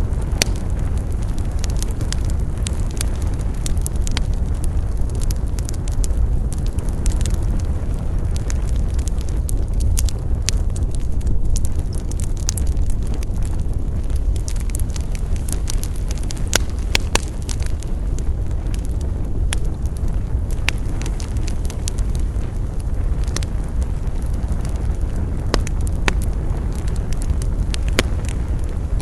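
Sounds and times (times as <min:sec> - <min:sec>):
burning wood crackling and popping: 0:00.0 - 0:29.0
campfire flames rumbling: 0:00.0 - 0:29.0.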